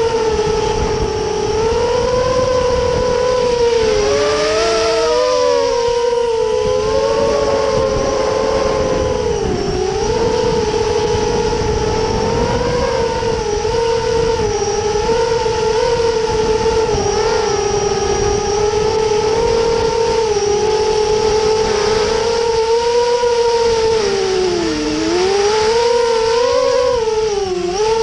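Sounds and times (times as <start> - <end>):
model aircraft motors whining: 0.0 - 28.0
low rushing noise: 2.0 - 28.0.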